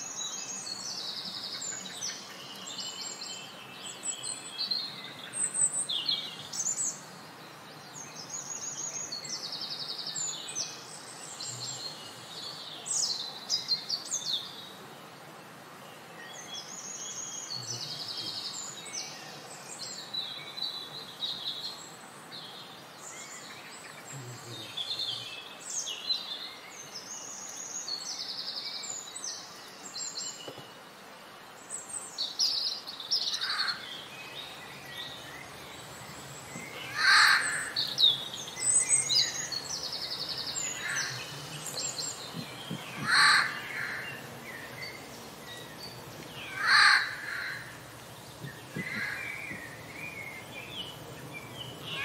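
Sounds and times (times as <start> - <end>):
soft background hiss: 0.0 - 52.0
songbirds chirping and trilling: 0.0 - 52.0.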